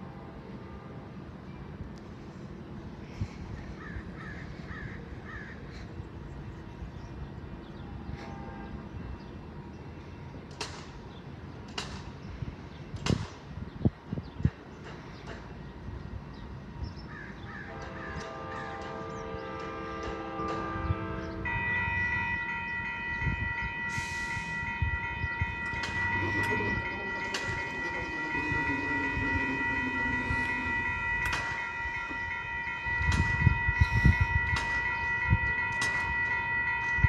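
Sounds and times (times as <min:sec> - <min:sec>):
steady low outdoor background: 0:00.0 - 0:37.0.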